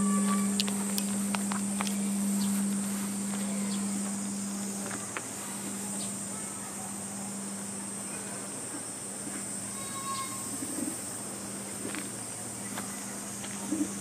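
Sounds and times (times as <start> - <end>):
faint low hum: 0.0 - 14.0
high-pitched insect drone: 0.0 - 14.0.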